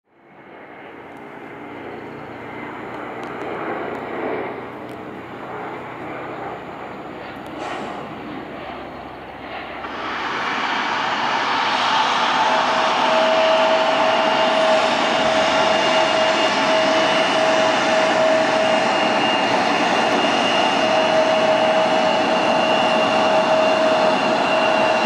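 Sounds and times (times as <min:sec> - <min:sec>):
jet airliner engines running: 0:00.1 - 0:25.0.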